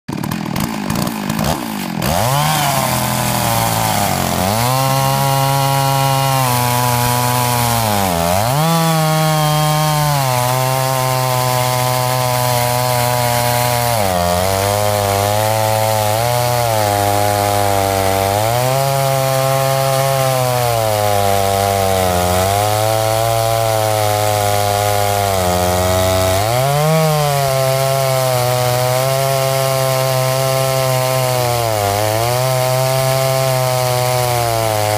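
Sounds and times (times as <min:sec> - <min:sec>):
chainsaw cutting log: 0:00.1 - 0:34.9.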